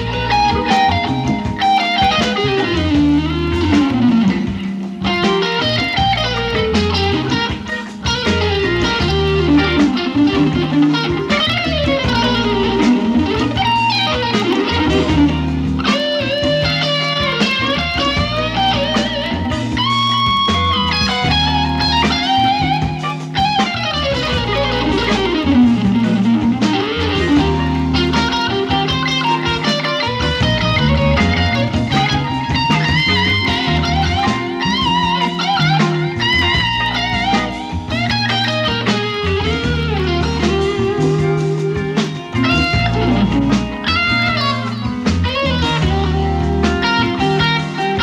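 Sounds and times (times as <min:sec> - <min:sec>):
bass line: 0:00.0 - 0:48.0
electric guitar solo: 0:00.0 - 0:48.0
live band playing: 0:00.0 - 0:48.0.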